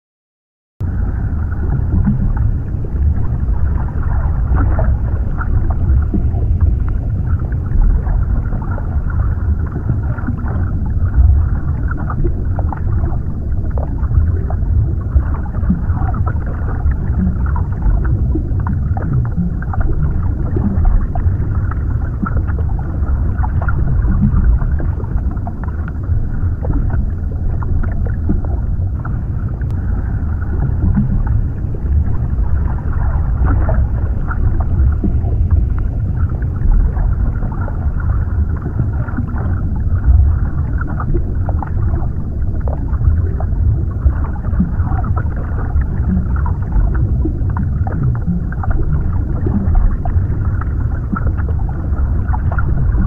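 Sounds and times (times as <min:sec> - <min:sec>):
bubbly clicks and crackles: 0:00.8 - 0:53.0
muffled underwater rumble: 0:00.8 - 0:53.0.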